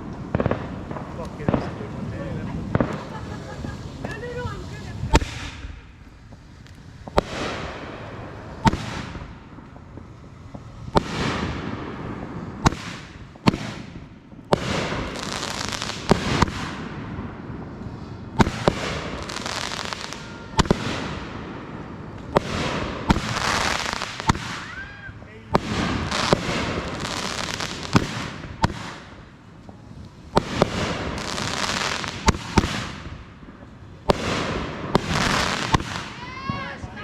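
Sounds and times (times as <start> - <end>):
fireworks bangs: 0.0 - 37.0
fireworks hiss and crackle: 0.0 - 37.0.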